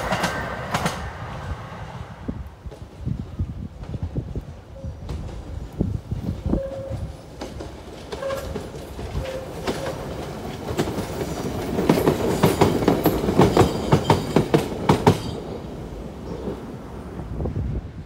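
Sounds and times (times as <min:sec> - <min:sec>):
train wheels clickety-clack: 0:00.0 - 0:16.7.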